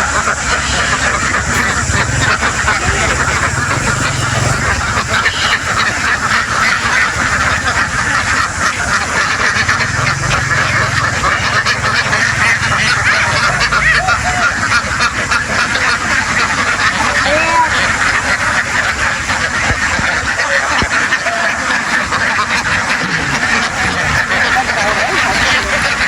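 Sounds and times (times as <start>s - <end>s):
steady low rumble: 0.0s - 21.0s
ducks quacking: 0.0s - 26.0s.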